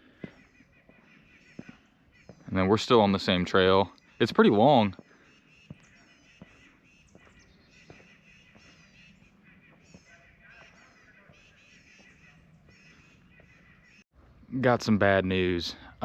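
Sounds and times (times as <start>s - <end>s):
distant geese honking: 0.0s - 14.4s
soft footsteps on trail: 0.0s - 14.4s.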